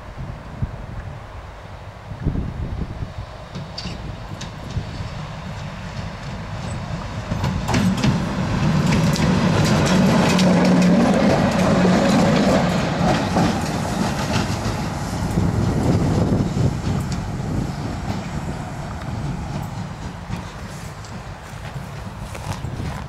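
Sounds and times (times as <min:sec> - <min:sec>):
locomotive passing with hum: 0:01.2 - 0:23.0
wheels clicking over rail joints: 0:03.5 - 0:23.0.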